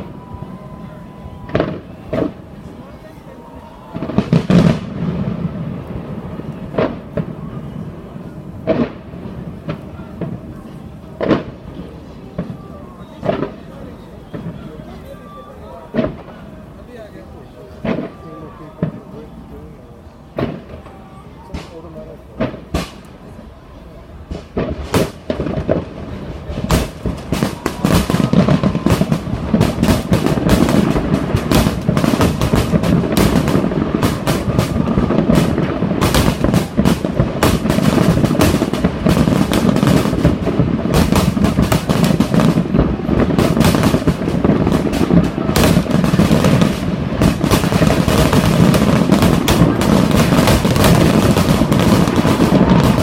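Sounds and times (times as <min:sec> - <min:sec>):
fireworks exploding and crackling: 0:00.0 - 0:53.0.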